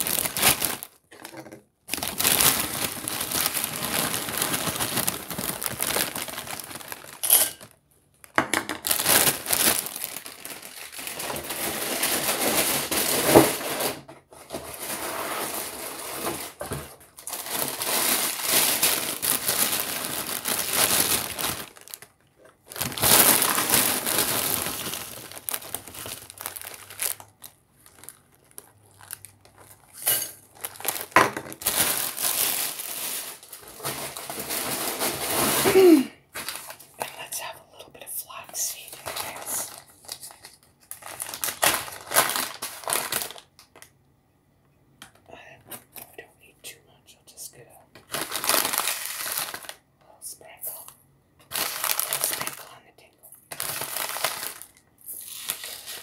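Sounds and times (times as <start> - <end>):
plastic bag liner crinkling: 0.0 - 37.6, 38.3 - 44.0, 48.0 - 49.8, 51.4 - 56.0.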